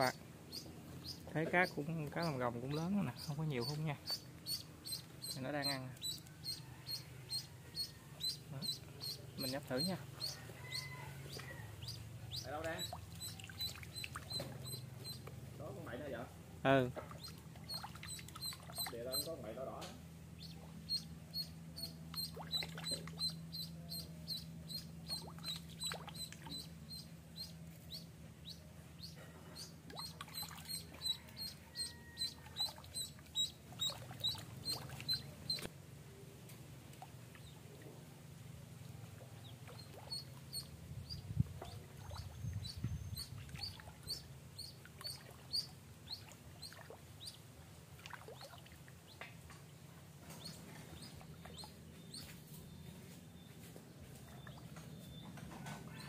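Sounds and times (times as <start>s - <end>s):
duckling peeping: 0.0s - 15.8s, 17.1s - 19.5s, 20.3s - 35.7s, 39.4s - 47.5s, 50.3s - 53.6s.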